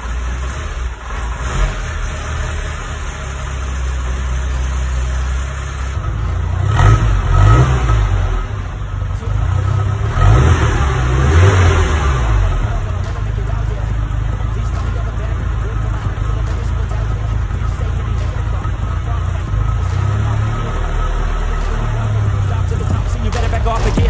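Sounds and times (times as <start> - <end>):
car engine idling: 0.0 - 24.0
engine revving: 0.0 - 24.0.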